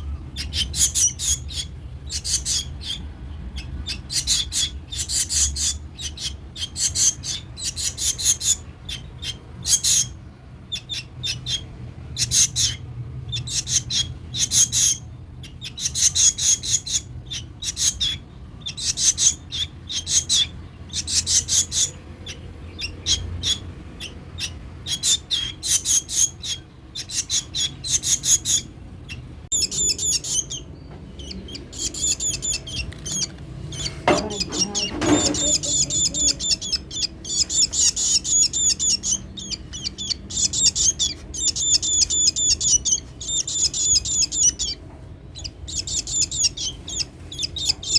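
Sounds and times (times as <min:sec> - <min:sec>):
baby bird chirping: 0:00.0 - 0:47.9.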